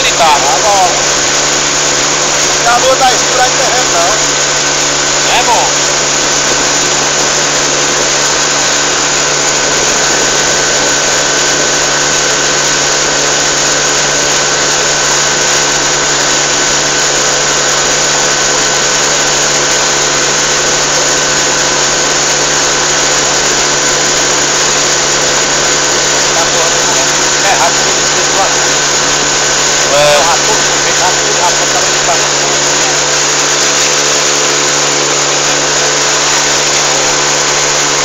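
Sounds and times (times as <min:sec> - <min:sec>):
outboard motor running: 0:00.0 - 0:38.0
water rushing past hull: 0:00.0 - 0:38.0.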